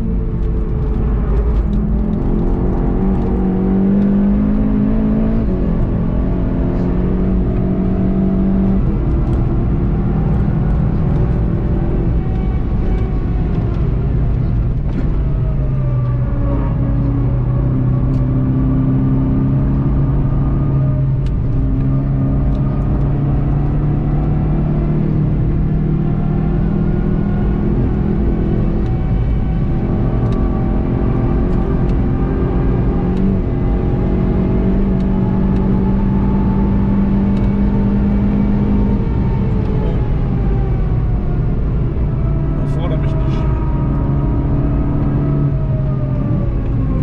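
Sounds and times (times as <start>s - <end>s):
car engine accelerating: 0.0s - 47.0s
road and tyre noise: 0.0s - 47.0s.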